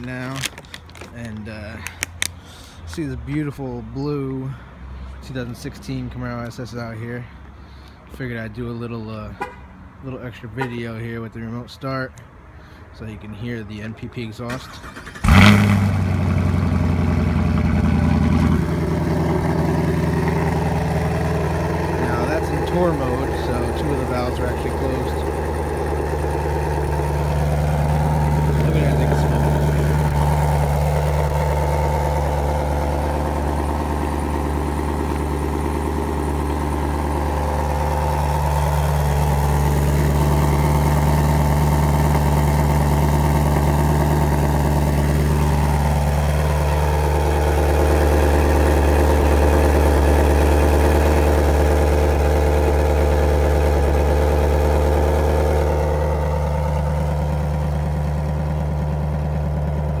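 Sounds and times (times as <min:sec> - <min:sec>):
car engine idling: 0:00.0 - 0:08.0, 0:14.4 - 1:00.0.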